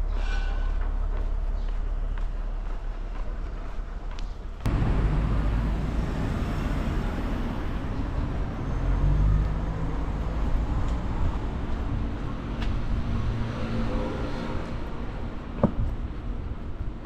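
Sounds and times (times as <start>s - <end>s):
outdoor urban ambience: 0.0s - 17.0s
road traffic rumble: 0.0s - 17.0s.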